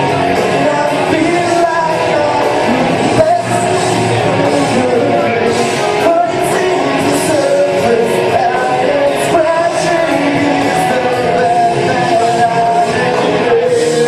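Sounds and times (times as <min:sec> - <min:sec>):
rock song with singer and band: 0:00.0 - 0:14.0.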